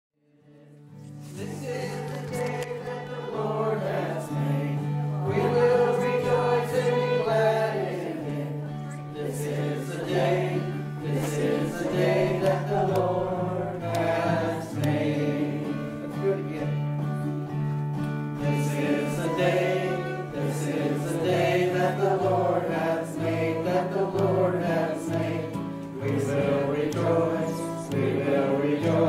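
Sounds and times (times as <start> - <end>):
group singing a hymn: 0.3 - 29.0
instrumental accompaniment: 0.9 - 29.0.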